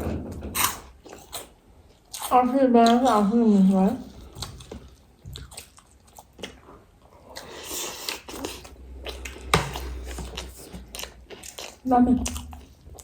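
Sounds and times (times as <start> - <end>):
crunchy food being chewed: 0.6 - 13.0.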